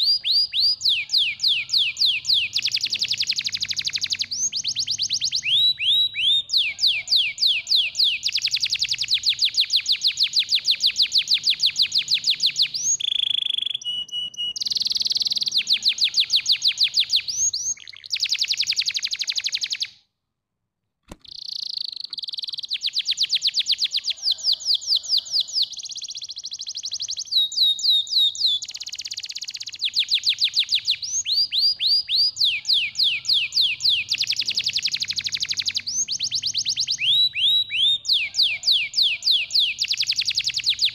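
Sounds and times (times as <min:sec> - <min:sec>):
canary singing trills: 0:00.0 - 0:20.0, 0:21.2 - 0:40.9.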